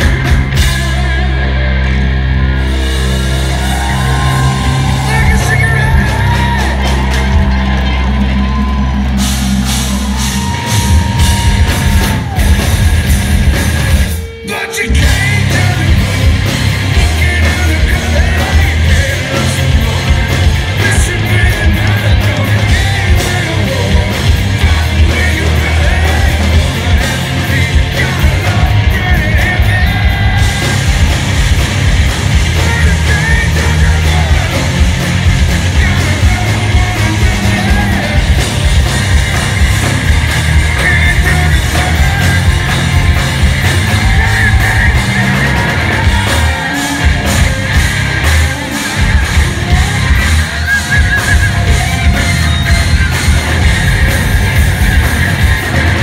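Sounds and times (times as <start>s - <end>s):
live hard rock band: 0.0s - 56.0s.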